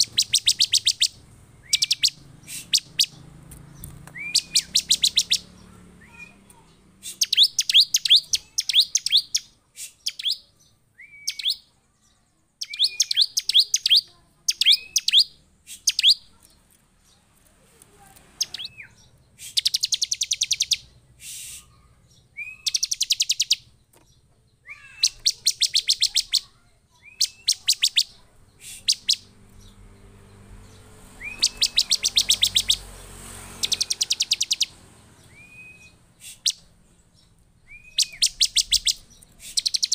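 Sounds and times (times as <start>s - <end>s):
bird calling in rapid bursts: 0.0s - 11.7s, 12.6s - 16.4s, 18.3s - 23.8s, 24.6s - 29.7s, 30.6s - 39.9s.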